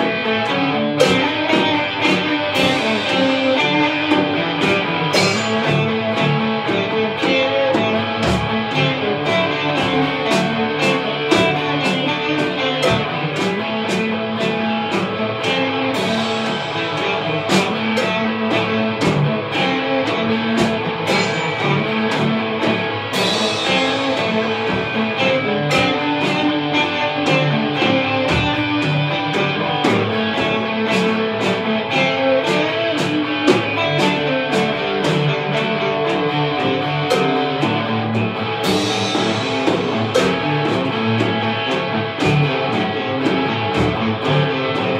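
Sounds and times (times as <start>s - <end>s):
drum kit beat: 0.0s - 44.9s
electric guitars playing rock: 0.0s - 44.9s.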